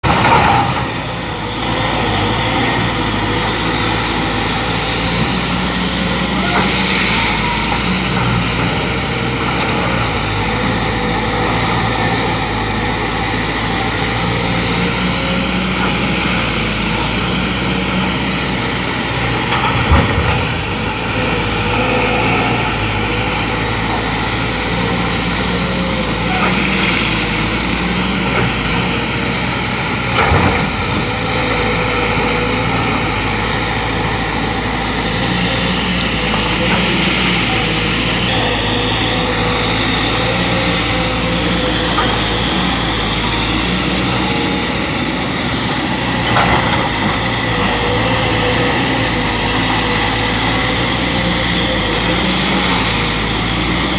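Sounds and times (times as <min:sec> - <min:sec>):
diesel engine running: 0:00.0 - 0:53.9
faint hydraulic whine: 0:00.1 - 0:53.9.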